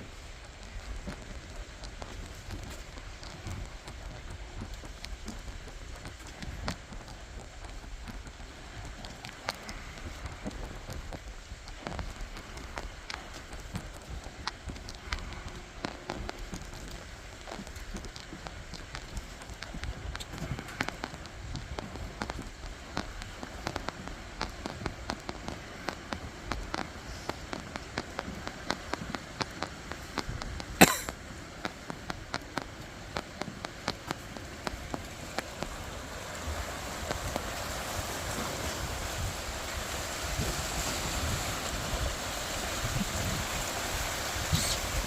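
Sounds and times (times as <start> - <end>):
waves washing: 0.0 - 45.0
wind: 0.0 - 45.0
small irregular taps and clicks: 0.3 - 39.8, 42.8 - 45.0.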